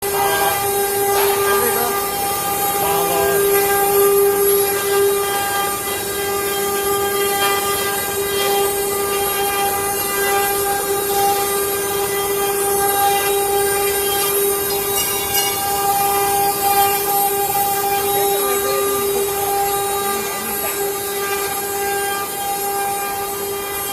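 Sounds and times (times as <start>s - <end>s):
router spindle whine: 0.0s - 23.9s
hiss of cutting: 0.1s - 23.9s.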